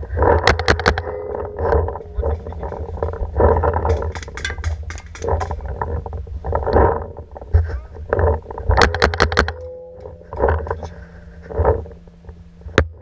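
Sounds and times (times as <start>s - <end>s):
camera rumble and knocking: 0.0s - 13.0s.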